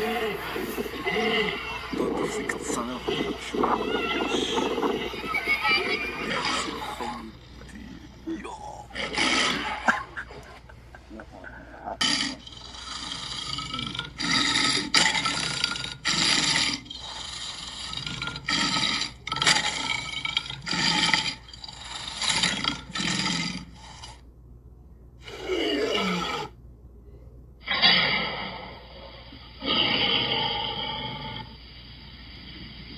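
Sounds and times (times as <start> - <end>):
lion roaring: 0.0 - 23.8, 25.2 - 26.5, 27.6 - 31.6.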